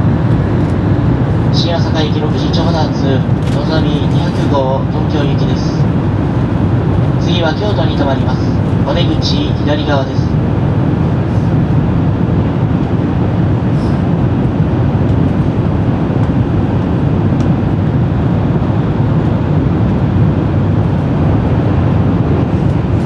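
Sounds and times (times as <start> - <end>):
train carriage low rumble: 0.0 - 23.0.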